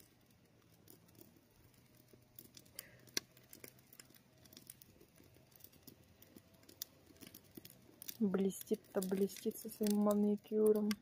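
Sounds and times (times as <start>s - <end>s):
faint small clicks and taps: 0.0s - 11.0s.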